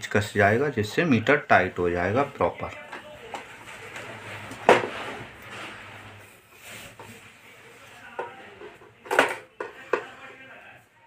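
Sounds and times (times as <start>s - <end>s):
rubbing and handling noise: 1.5s - 10.6s.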